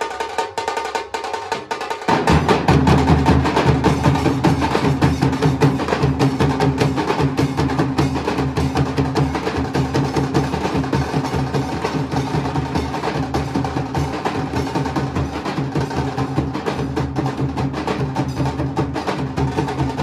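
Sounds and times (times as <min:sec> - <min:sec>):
barrel drums struck with sticks: 0:00.0 - 0:20.0.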